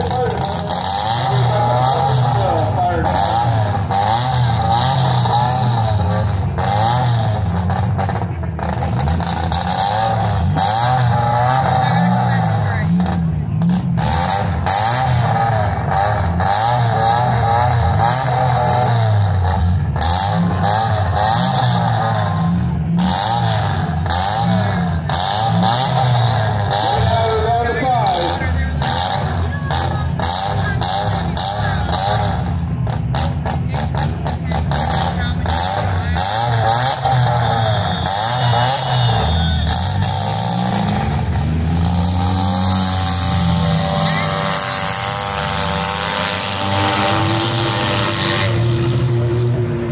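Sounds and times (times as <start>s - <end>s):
car engines revving hard: 0.0s - 49.9s.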